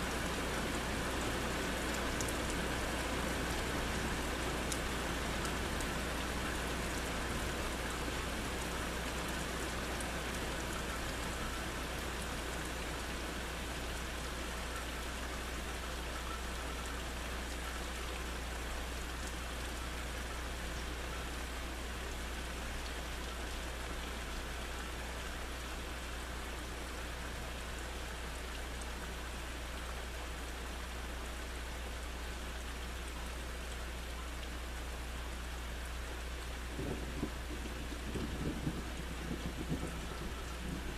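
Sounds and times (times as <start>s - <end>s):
rain falling on trees: 0.0s - 40.9s.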